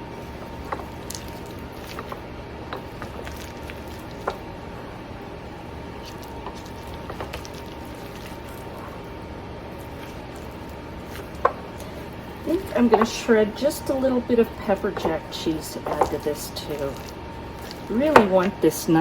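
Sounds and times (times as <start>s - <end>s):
filling squishing in a bowl: 0.0s - 19.0s
steady low hum: 0.0s - 19.0s.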